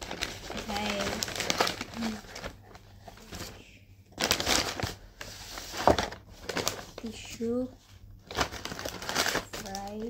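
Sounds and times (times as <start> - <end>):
paper bag rustling and crinkling: 0.0 - 10.0.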